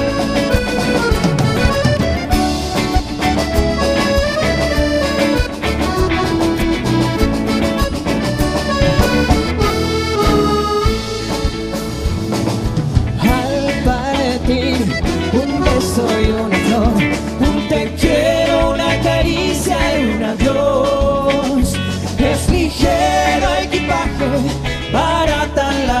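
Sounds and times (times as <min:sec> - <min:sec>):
drum kit: 0:00.0 - 0:26.0
electric guitar: 0:00.0 - 0:26.0
live band playing: 0:00.0 - 0:26.0.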